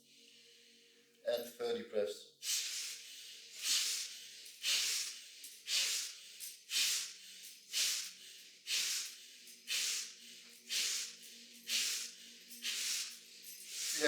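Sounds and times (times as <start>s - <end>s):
person breathing forcefully through nose: 2.4s - 14.0s.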